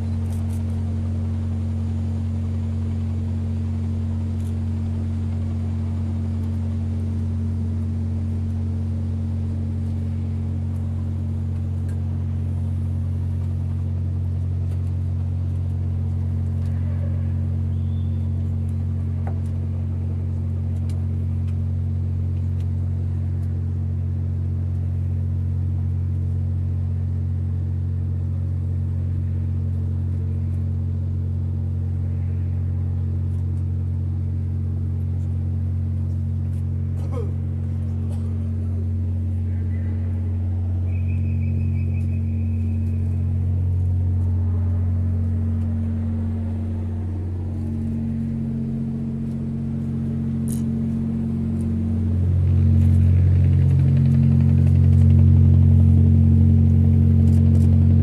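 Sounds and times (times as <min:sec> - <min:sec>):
ship engines droning: 0:00.0 - 0:58.0.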